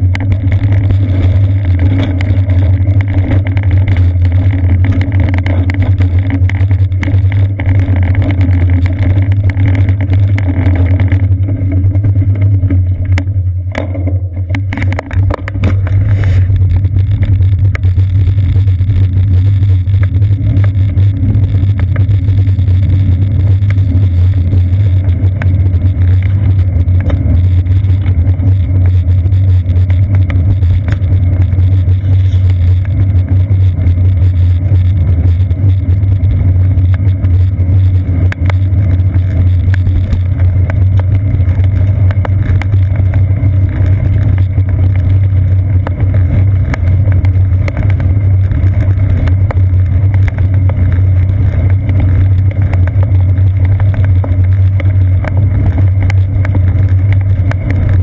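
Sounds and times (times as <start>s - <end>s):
bicycle rolling on wet street: 0.0s - 58.0s
clicks from bumps: 0.0s - 58.0s.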